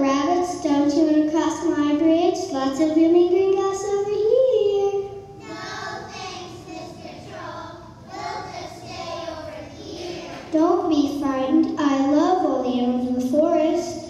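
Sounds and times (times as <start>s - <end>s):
faint voices in a hall: 0.0s - 14.0s.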